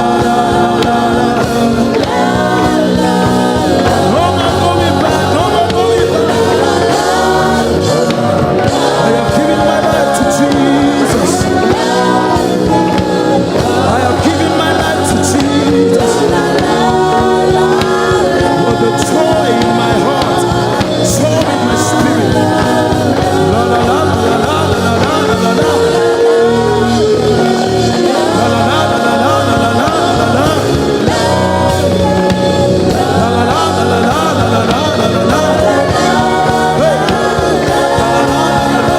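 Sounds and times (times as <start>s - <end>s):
instrumental accompaniment: 0.0s - 38.9s
voices singing wordless lines: 0.0s - 38.9s.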